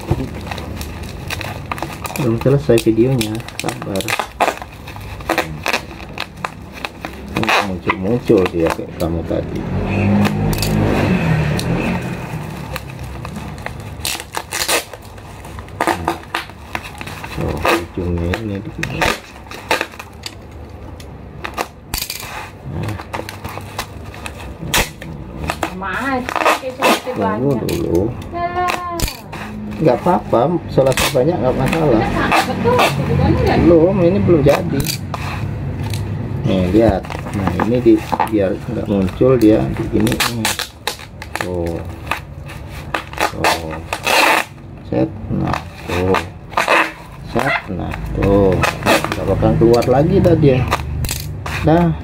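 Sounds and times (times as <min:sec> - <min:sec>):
plastic wrapping crinkling: 0:00.0 - 0:09.5, 0:11.6 - 0:51.8
packing tape unrolling: 0:00.0 - 0:51.9.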